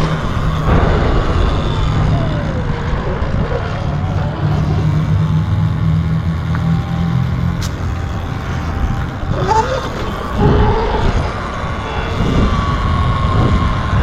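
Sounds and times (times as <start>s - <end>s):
vehicle low rumble: 0.0s - 14.0s
whine falling in pitch: 0.0s - 14.0s.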